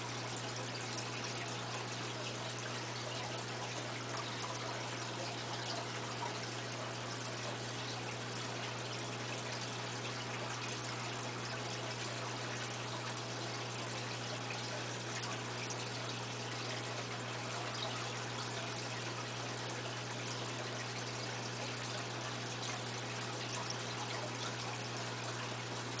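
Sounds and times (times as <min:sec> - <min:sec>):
filter low hum: 0:00.0 - 0:26.0
water trickling: 0:00.0 - 0:26.0.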